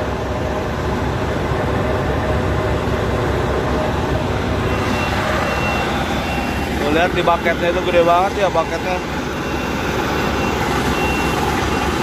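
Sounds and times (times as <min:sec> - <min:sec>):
concrete mixer truck running: 0:00.0 - 0:12.0.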